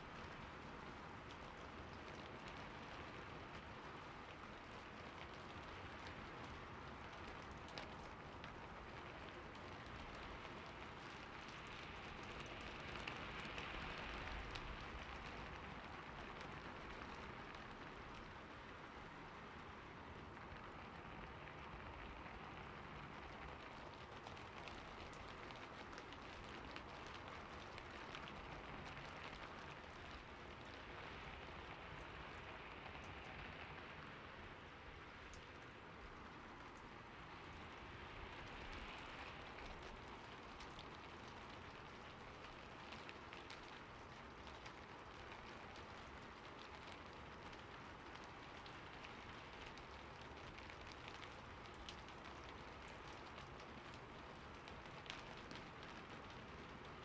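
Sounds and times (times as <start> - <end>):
soft rain on a roof: 0.0 - 57.0.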